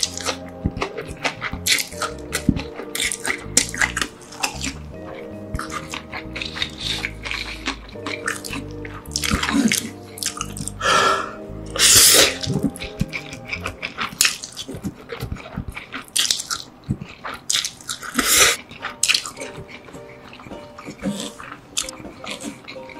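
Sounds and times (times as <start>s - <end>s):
chewing with wet mouth clicks: 0.0s - 10.8s, 11.7s - 22.9s
background music: 0.0s - 22.9s
slurping noodles: 0.0s - 22.9s.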